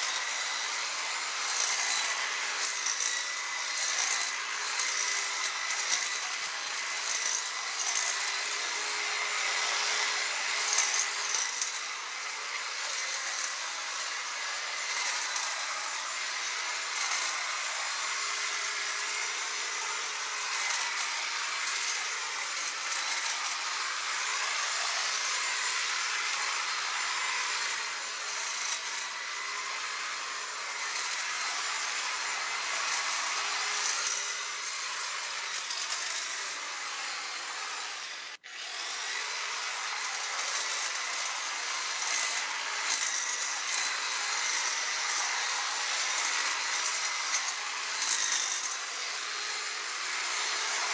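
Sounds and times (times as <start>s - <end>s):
electric hedge clippers cutting: 0.0s - 50.9s.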